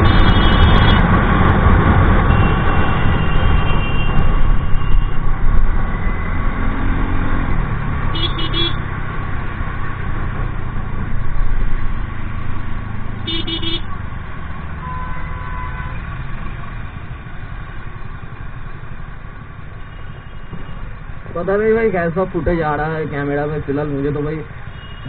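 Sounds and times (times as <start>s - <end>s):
scooter engine and road noise: 0.0s - 25.0s.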